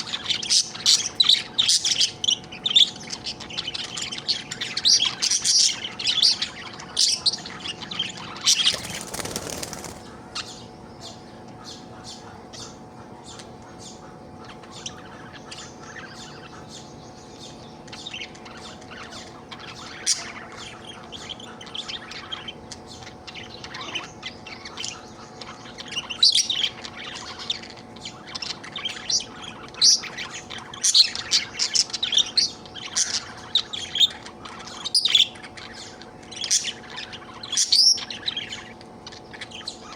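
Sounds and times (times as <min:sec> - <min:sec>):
budgerigar chirping and warbling: 0:00.0 - 0:39.9.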